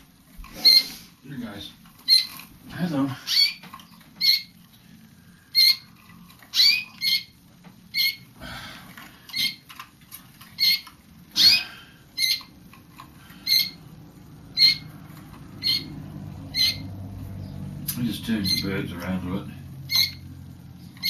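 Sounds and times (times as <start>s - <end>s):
canaries chirping: 0.0s - 8.4s, 9.2s - 21.0s.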